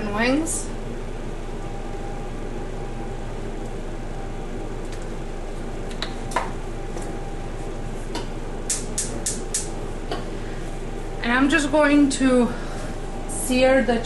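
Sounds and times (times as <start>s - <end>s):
steady fan-like noise: 0.0s - 14.0s.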